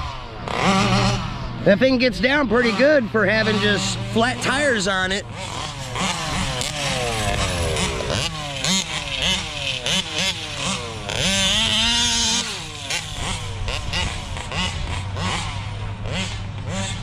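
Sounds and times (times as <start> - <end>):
rc truck engines revving: 0.0 - 17.0.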